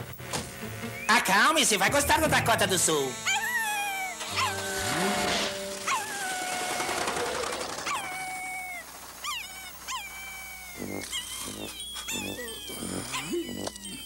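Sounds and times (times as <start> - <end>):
cartoon dog whining: 2.3 - 14.0.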